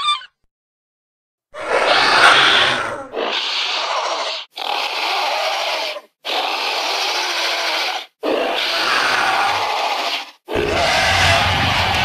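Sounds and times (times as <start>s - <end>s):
toy dinosaur roaring: 1.6s - 12.0s.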